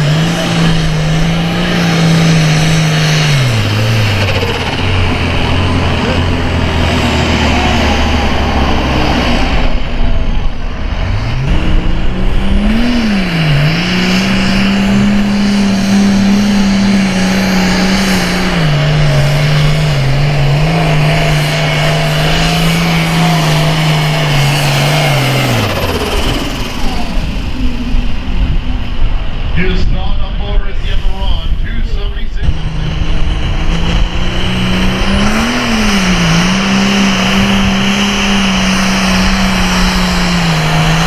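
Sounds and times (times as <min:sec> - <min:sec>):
diesel tractor engine at full throttle: 0:00.0 - 0:41.0.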